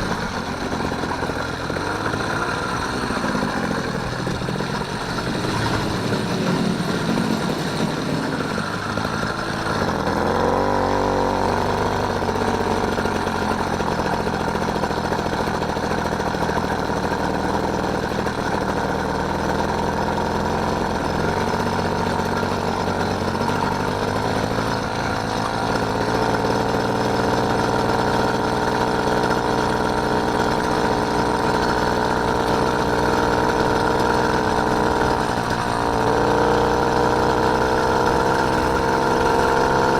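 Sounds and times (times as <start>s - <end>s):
small bicycle engine running: 0.0s - 39.9s.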